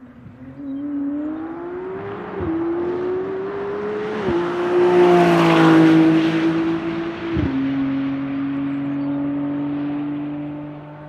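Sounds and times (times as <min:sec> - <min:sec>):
race car accelerating: 0:00.1 - 0:11.0
car passing close by: 0:01.0 - 0:11.0.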